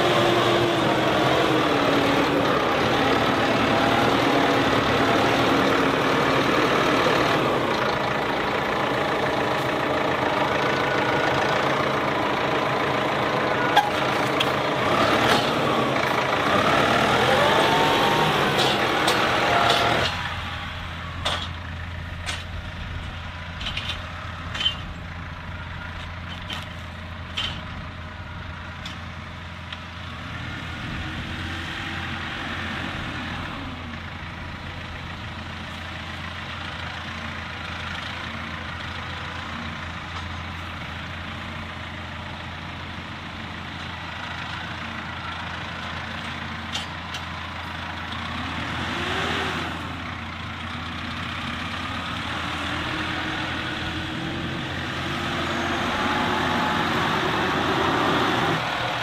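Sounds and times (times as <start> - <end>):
distant low engine hum: 0.0 - 59.0
tractor engine running: 0.0 - 59.0.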